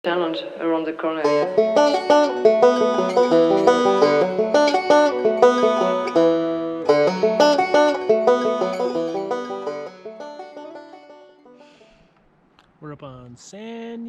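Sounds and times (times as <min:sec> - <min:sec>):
plucked banjo tune: 0:00.1 - 0:11.8.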